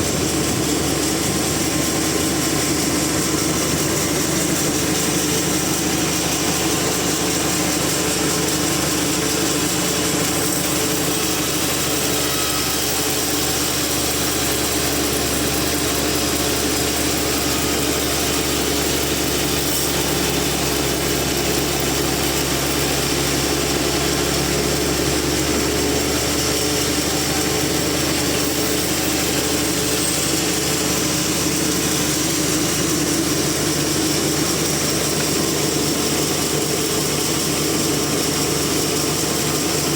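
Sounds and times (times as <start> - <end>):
sawmill engine drone: 0.0 - 39.9.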